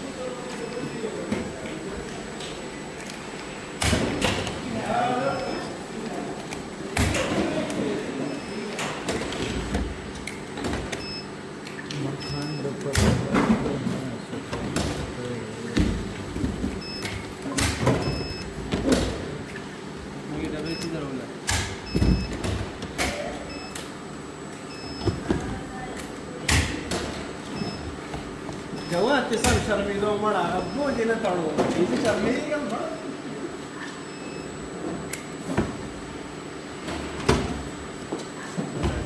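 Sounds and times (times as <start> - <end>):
workshop machinery running: 0.0 - 39.0.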